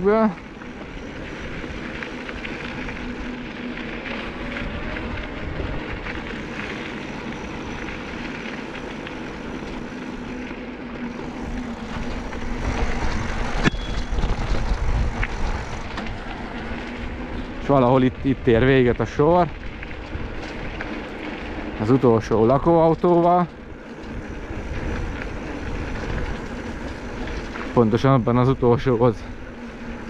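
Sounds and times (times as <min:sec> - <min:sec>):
bike tyres rolling on dirt: 0:00.0 - 0:30.0.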